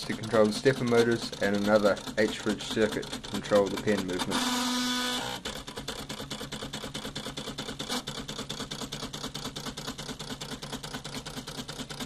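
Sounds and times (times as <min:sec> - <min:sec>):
printer rapid ticking: 0:00.0 - 0:12.0.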